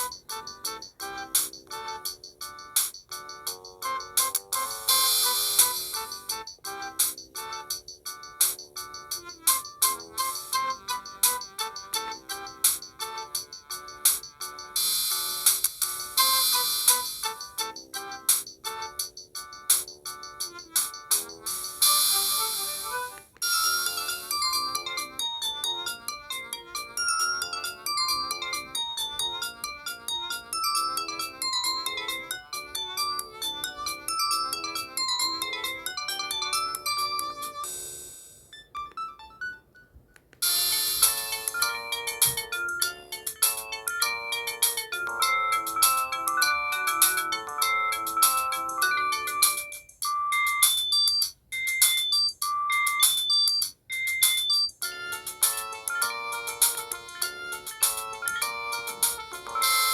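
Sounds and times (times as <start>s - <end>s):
phone ringtone melodies: 0.0s - 59.9s.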